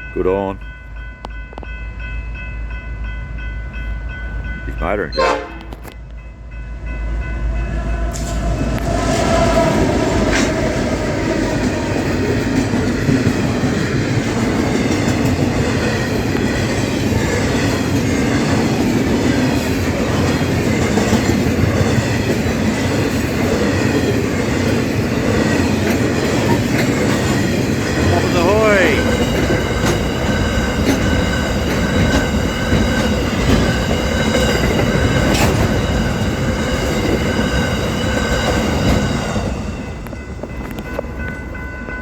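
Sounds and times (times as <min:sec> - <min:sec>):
freight train wheels clattering: 0:07.3 - 0:42.0.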